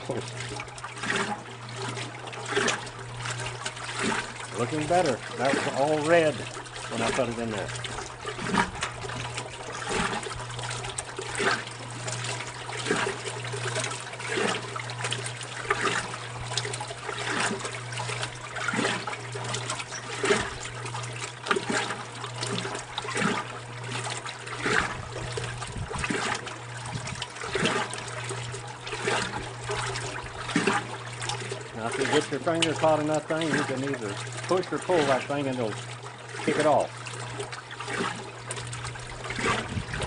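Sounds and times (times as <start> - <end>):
washing machine motor hum: 0.0 - 40.0
water sloshing in washing machine: 0.0 - 40.0.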